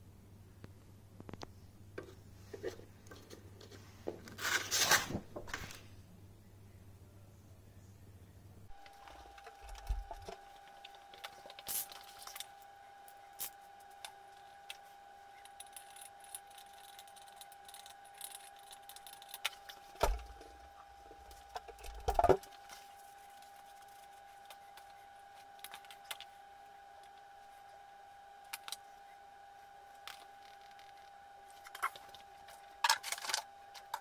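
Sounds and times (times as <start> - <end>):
faint steady high tone: 6.4 - 34.0.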